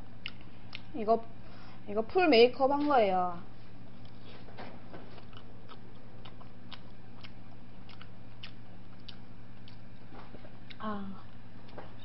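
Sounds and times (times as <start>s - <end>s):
crunchy chewing of fried chicken: 0.0s - 1.8s, 3.6s - 11.8s
steady low hum: 0.0s - 12.0s.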